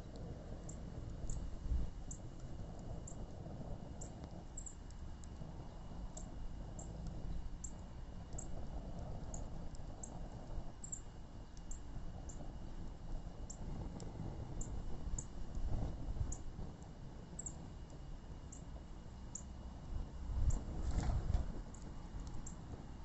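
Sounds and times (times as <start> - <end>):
low rumble of burning: 0.0 - 23.0
wood fire crackling: 0.0 - 23.0.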